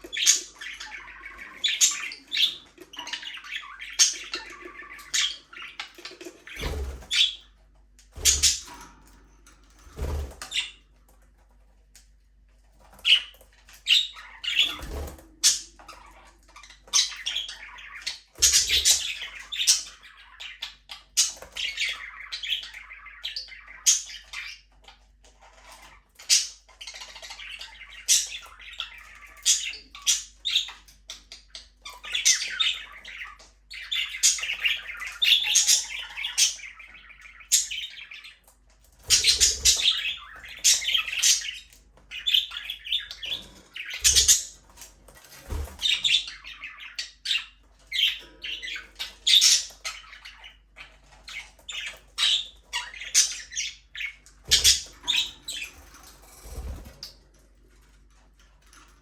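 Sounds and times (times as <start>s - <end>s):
budgerigars chirping: 0.0s - 7.5s, 8.2s - 8.8s, 13.0s - 57.2s.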